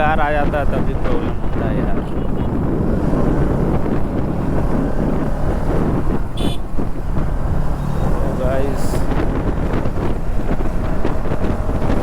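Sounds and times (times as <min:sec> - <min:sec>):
wind buffeting microphone: 0:00.0 - 0:12.0
motorcycle engine running: 0:01.3 - 0:12.0.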